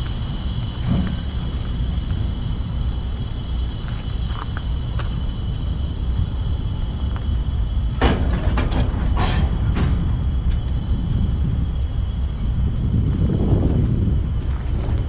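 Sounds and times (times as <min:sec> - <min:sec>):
train cars rumbling past: 0:00.0 - 0:15.0
train clanks and squeaks: 0:00.0 - 0:15.0.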